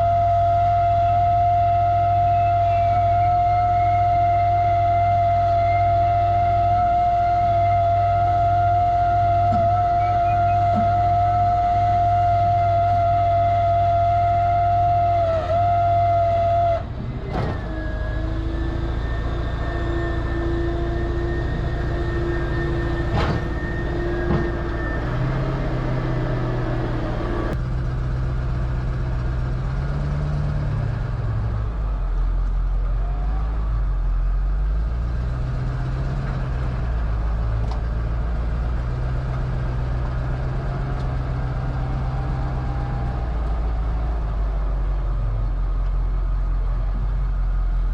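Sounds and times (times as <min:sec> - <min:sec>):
truck engine and road noise: 0:00.0 - 0:47.9.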